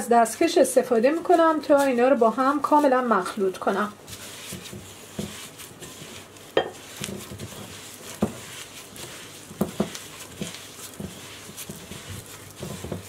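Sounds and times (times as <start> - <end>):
butter and sugar squishing: 0.9 - 13.0.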